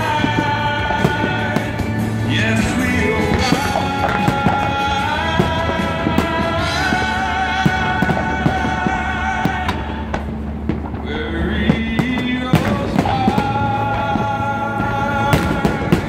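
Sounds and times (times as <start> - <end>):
fireworks bangs and pops: 0.0 - 16.0
music with sung notes: 0.0 - 16.0.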